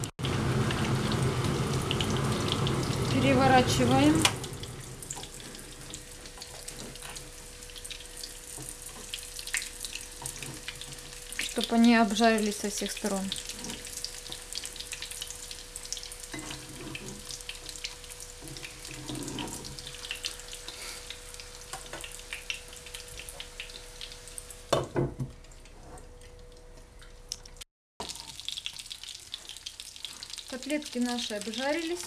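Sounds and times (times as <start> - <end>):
chicken frying in oil: 0.0 - 26.4, 27.0 - 32.0.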